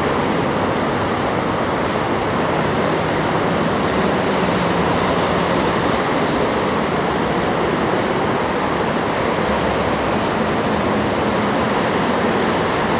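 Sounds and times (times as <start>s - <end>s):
freeway traffic roar: 0.0s - 12.9s.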